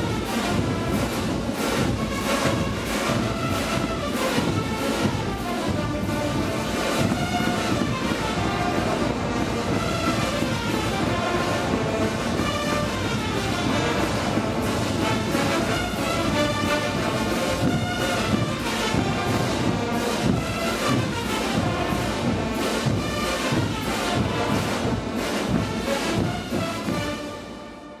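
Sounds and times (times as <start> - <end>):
snare and bass drums: 0.0 - 27.6
brass band playing: 0.0 - 28.0.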